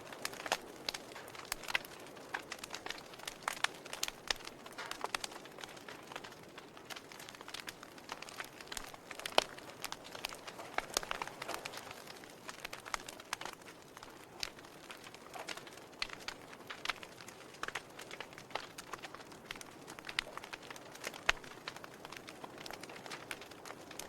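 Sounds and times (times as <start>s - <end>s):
campfire crackling and popping: 0.0s - 24.0s
faint steady hiss: 0.0s - 24.0s.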